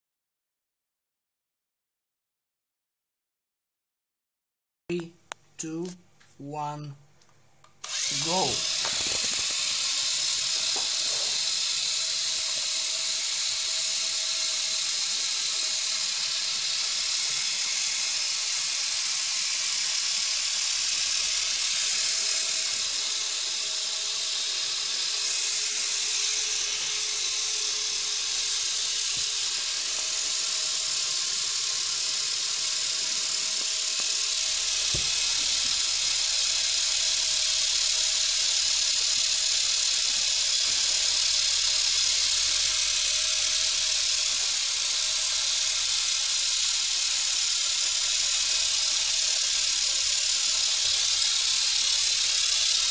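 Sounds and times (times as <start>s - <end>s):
electric motor whirring: 7.8s - 52.9s.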